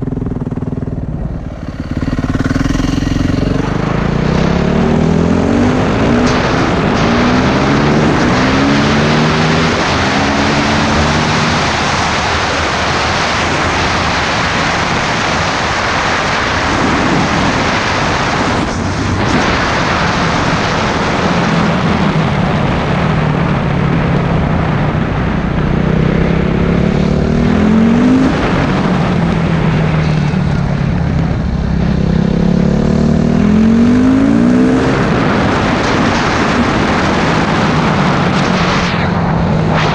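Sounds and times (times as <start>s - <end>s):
loud wind rush: 0.0s - 39.9s
motorcycle engine accelerating: 0.0s - 39.9s.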